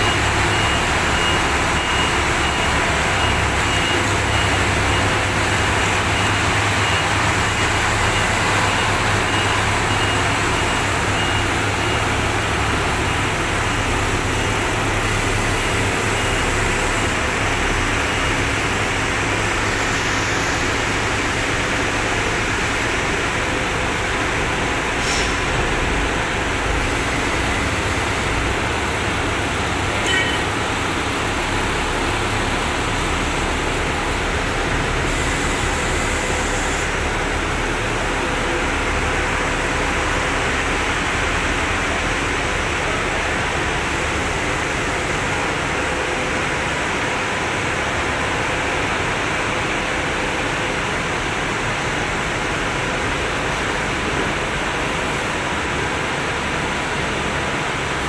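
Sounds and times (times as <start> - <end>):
road roller diesel engines: 0.0 - 58.0.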